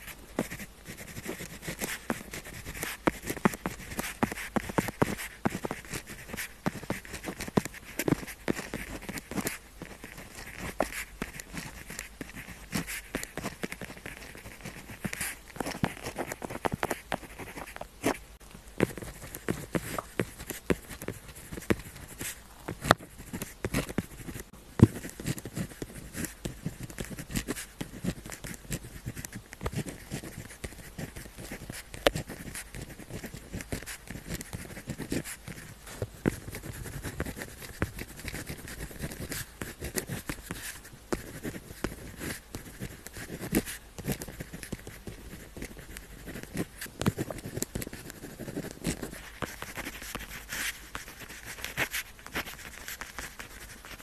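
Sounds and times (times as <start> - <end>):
pen scratching on paper: 0.0 - 18.2, 18.8 - 54.0.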